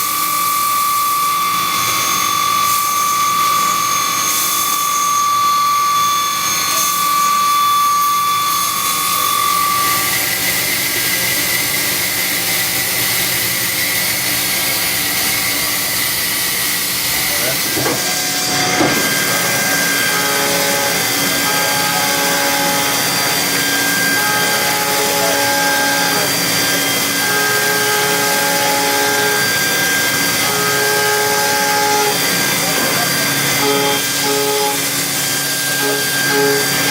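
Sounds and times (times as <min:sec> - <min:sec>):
cnc mill cutting hiss: 0:00.0 - 0:36.9
machining whine: 0:00.0 - 0:36.9.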